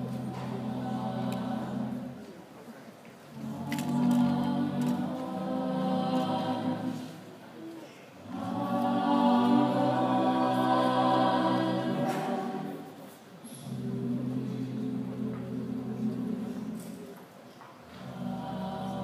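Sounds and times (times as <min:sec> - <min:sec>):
choir singing in harmony: 0:00.0 - 0:02.4, 0:03.3 - 0:07.4, 0:08.2 - 0:17.1, 0:17.8 - 0:19.0.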